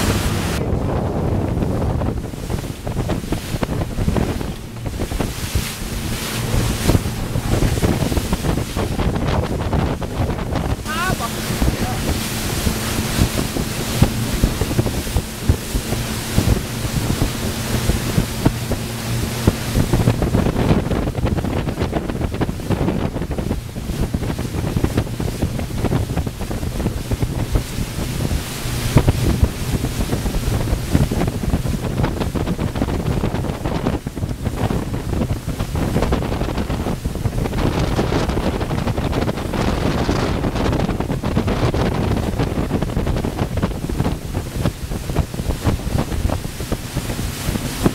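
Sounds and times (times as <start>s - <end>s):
boat engines droning: 0.0s - 47.9s
water rushing past hull: 0.0s - 47.9s
wind buffeting microphone: 0.0s - 47.9s.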